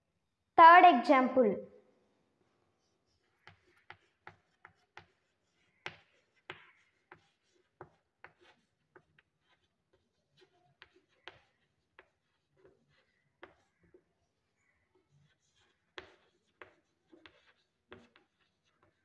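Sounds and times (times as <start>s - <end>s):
chalk scratching on chalkboard: 2.8s - 19.0s.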